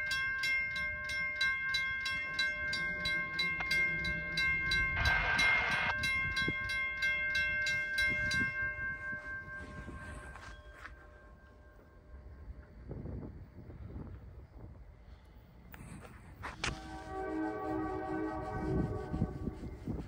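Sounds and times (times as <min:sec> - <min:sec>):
railroad crossing bell ringing: 0:00.0 - 0:13.3, 0:16.6 - 0:19.8
train rumbling: 0:00.0 - 0:20.0.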